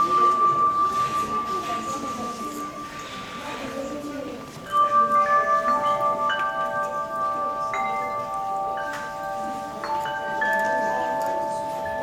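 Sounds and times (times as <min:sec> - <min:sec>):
chimes ringing: 0:00.0 - 0:12.0.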